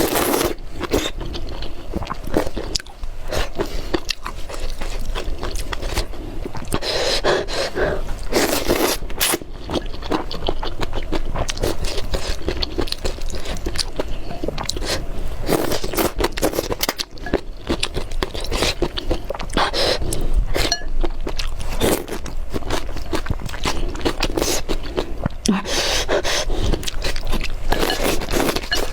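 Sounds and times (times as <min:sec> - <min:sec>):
chewing and slurping noodles: 0:00.0 - 0:28.9.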